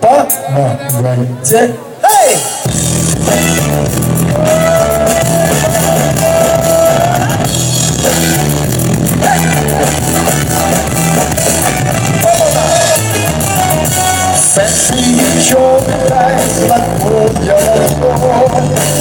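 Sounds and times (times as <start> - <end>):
live pop band playing: 0.0 - 19.0.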